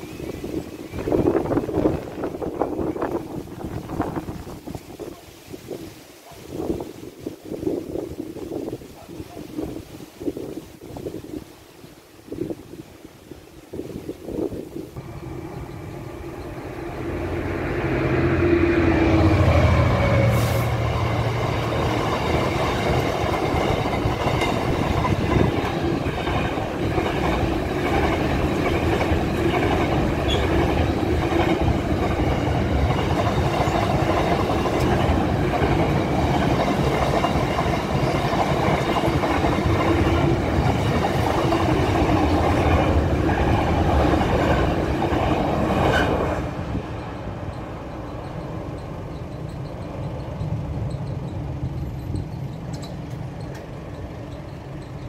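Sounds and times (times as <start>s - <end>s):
freight train passing: 0.0s - 10.5s, 14.2s - 55.0s.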